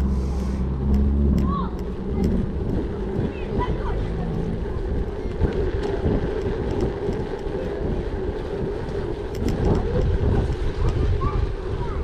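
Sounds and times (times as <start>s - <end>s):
bike running on gravel: 0.0s - 12.0s
wind buffeting microphone: 0.0s - 12.0s.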